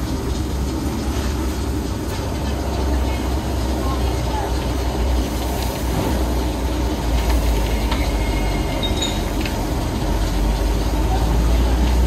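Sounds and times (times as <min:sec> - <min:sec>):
fire and boiling rumble: 0:00.0 - 0:12.0.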